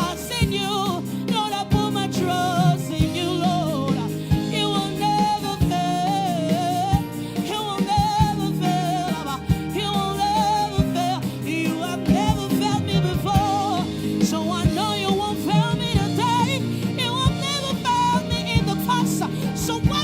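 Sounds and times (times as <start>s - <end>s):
choir singing gospel song: 0.0s - 20.0s
live band playing chords: 0.0s - 20.0s.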